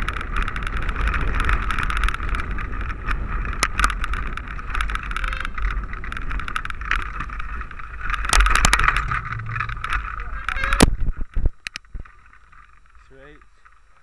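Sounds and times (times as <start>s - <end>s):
wheels knocking over bumps: 0.0s - 12.6s
mountain bike rattling on trail: 0.0s - 14.0s.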